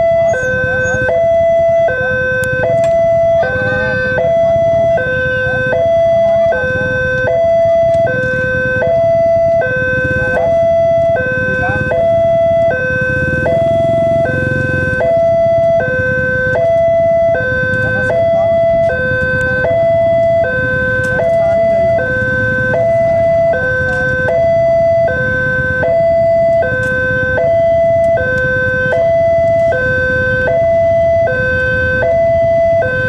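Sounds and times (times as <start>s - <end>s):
level crossing two-tone alarm: 0.0s - 33.0s
low vehicle rumble: 0.0s - 33.0s.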